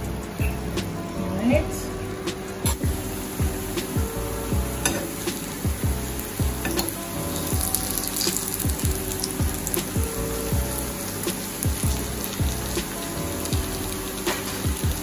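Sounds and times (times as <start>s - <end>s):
music with deep bass beat: 0.0s - 15.0s
food sizzling in a pan: 0.4s - 15.0s.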